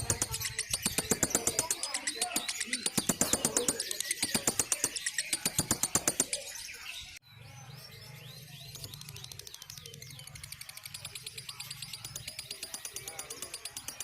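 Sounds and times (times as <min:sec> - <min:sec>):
faint fast bird chatter: 0:00.0 - 0:14.0
lovebird rapid trill: 0:00.0 - 0:14.0.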